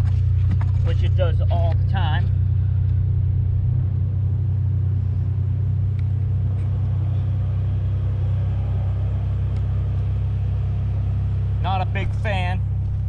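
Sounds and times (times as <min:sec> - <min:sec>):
low rumble and hum: 0:00.0 - 0:13.0.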